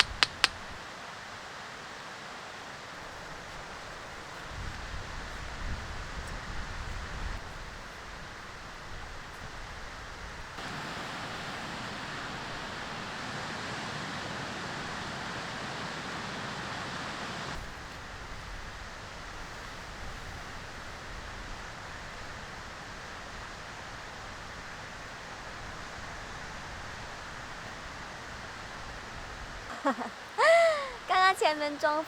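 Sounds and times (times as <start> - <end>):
sea wind and surf hiss: 0.0 - 32.0.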